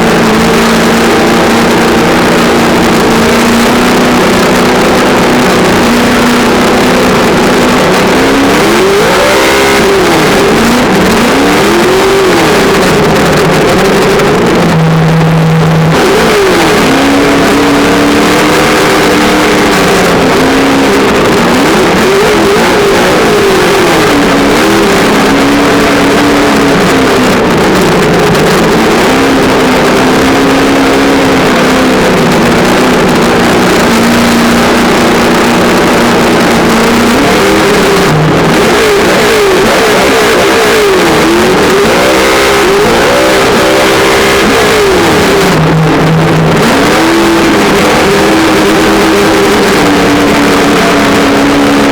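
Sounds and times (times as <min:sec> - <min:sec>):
simulated engine revving from speaker: 0:00.0 - 0:34.0, 0:35.4 - 0:51.9.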